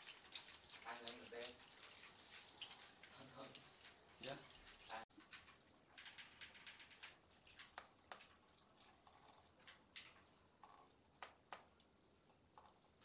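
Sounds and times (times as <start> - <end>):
water dripping: 0.0 - 13.0.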